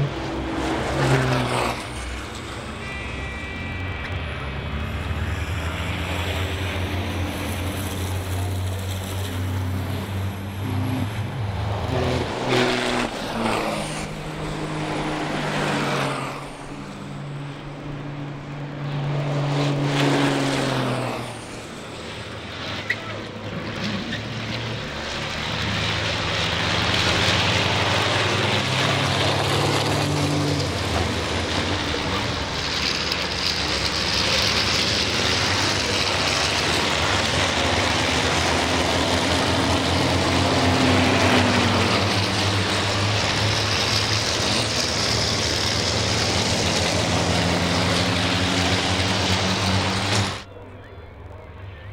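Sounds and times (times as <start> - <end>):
racing trucks passing: 0.0 - 51.9.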